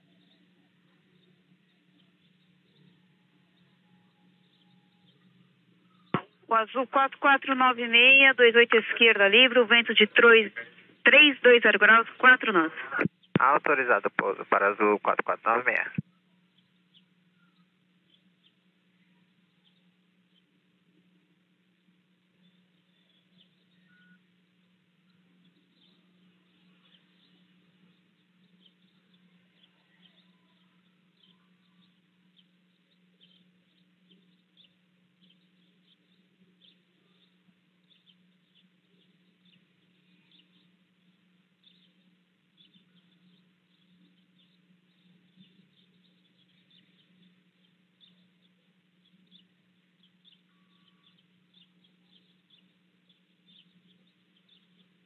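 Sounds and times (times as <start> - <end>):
faint steady low hum: 0.0 - 55.0.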